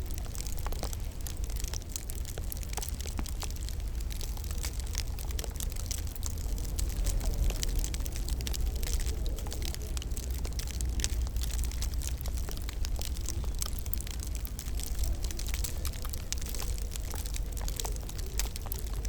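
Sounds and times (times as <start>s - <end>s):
steady low rumble: 0.0s - 19.0s
wood fire crackling and popping: 0.0s - 19.0s.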